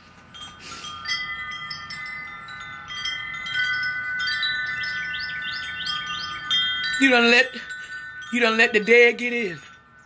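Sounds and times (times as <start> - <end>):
wind chimes ringing: 0.2 - 10.0.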